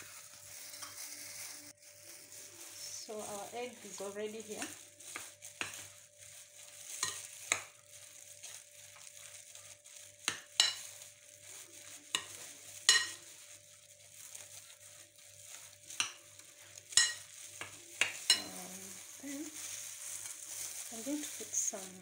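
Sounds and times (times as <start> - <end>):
plastic glove crinkling: 0.0 - 22.0
wet squelching of kneaded meat: 0.0 - 22.0.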